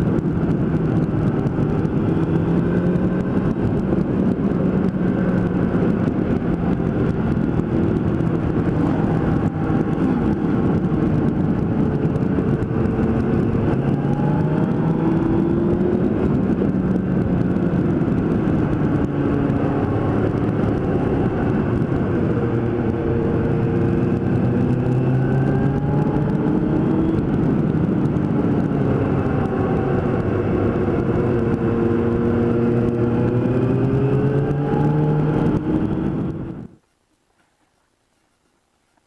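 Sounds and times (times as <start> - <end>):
motorcycle engine revving: 0.0 - 36.8
wind rush over microphone: 0.0 - 36.9.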